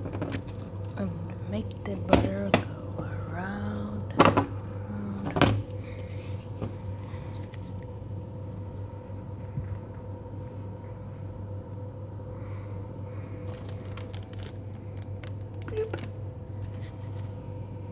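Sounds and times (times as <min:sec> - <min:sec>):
low hum: 0:00.0 - 0:17.9.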